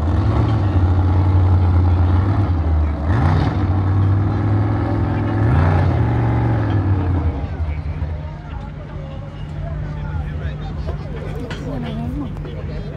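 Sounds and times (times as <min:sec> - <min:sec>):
large engine running: 0:00.0 - 0:12.9.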